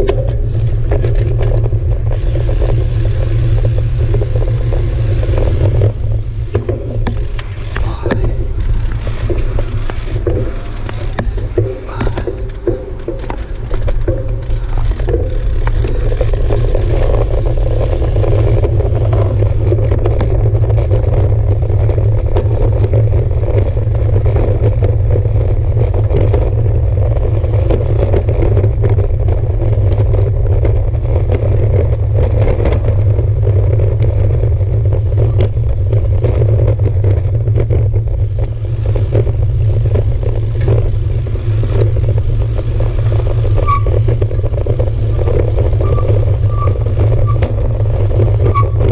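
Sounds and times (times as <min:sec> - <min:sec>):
bicycle rumbling over cobblestones: 0:00.0 - 0:48.9
bike rattling: 0:00.0 - 0:48.9.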